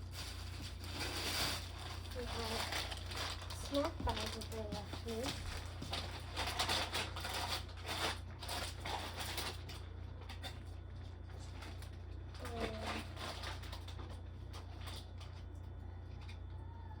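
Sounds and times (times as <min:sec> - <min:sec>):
plastic snack bags crinkling: 0:00.0 - 0:15.6
steady low hum: 0:00.0 - 0:17.0.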